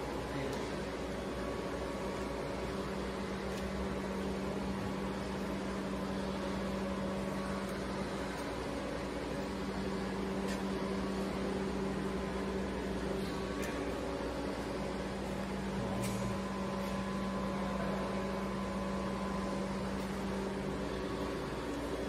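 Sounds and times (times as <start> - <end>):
workshop machinery hum: 0.0 - 22.0.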